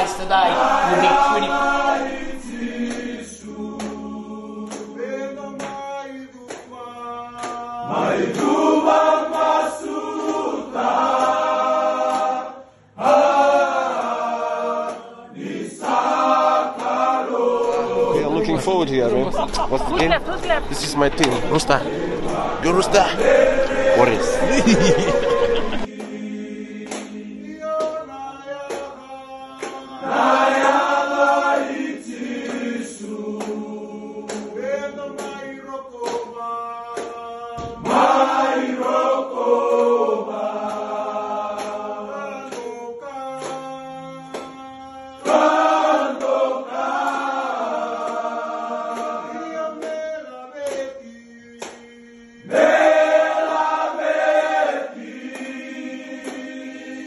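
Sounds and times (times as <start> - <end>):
men singing in harmony: 0.0 - 20.7, 21.3 - 57.0.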